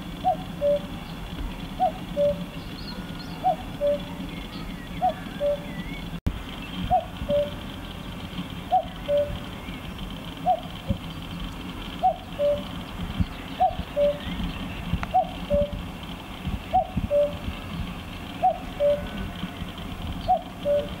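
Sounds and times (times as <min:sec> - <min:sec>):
cuckoo calling: 0:00.0 - 0:21.0.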